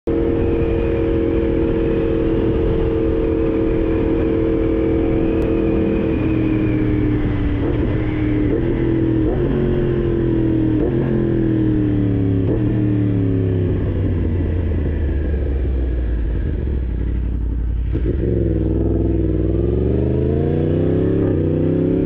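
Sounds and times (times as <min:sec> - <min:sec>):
motorcycle engine at speed: 0:00.1 - 0:22.0.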